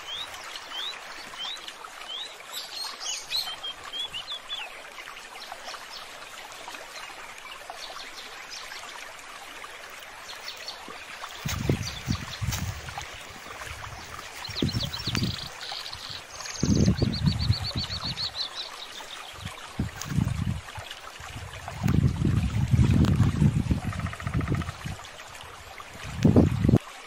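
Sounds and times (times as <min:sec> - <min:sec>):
stream flowing: 0:00.0 - 0:27.0.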